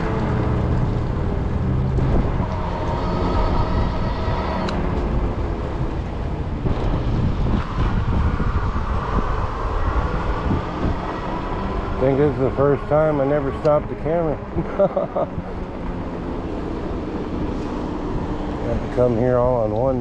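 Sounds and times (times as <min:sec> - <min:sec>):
e-bike rolling on road: 0:00.0 - 0:20.0
wind buffeting microphone: 0:00.0 - 0:20.0.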